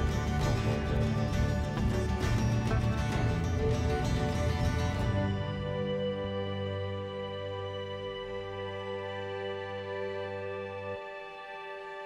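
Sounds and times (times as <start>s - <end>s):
slow soft chord music: 0.0s - 12.0s.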